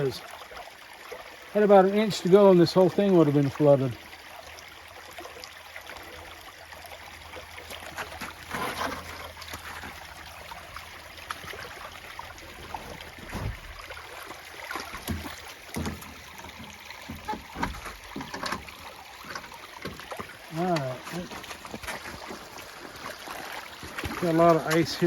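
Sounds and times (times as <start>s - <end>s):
floodwater flowing through slush: 0.0s - 25.0s.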